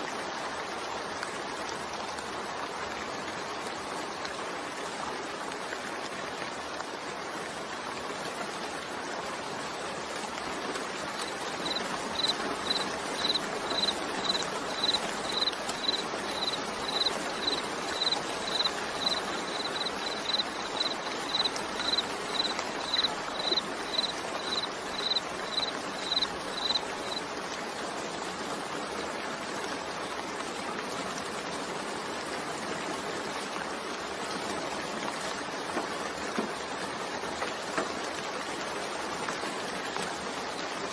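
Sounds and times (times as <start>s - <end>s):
soft rain: 0.0s - 40.9s.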